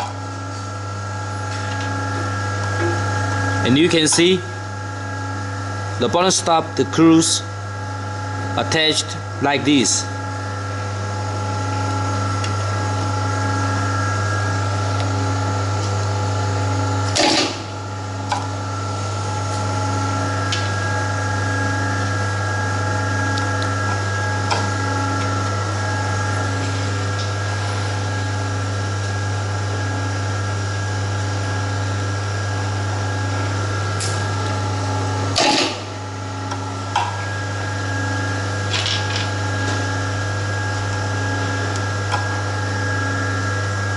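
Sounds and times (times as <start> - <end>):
electric motor hum: 0.0 - 43.9.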